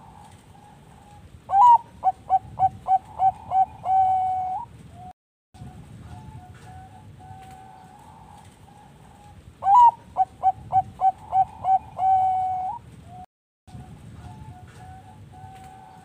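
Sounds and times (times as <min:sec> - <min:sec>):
dove singing: 0:00.0 - 0:04.8, 0:05.6 - 0:16.0
faint dove coos: 0:00.0 - 0:05.1, 0:05.8 - 0:13.2, 0:13.9 - 0:16.0.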